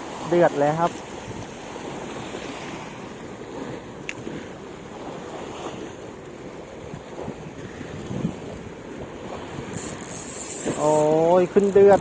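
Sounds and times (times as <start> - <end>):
surf washing on shore: 0.0 - 12.0
wind buffeting microphone: 1.1 - 12.0.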